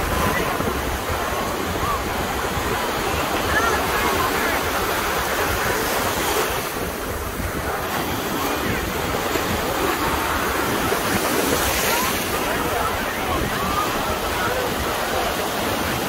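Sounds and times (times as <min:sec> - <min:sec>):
small waves breaking: 0:00.0 - 0:16.0
wind buffeting microphone: 0:00.0 - 0:16.0.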